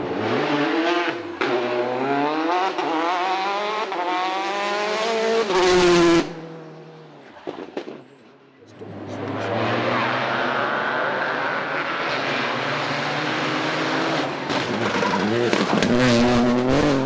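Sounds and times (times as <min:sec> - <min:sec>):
rally car engine revving: 0:00.0 - 0:07.4, 0:08.7 - 0:17.0.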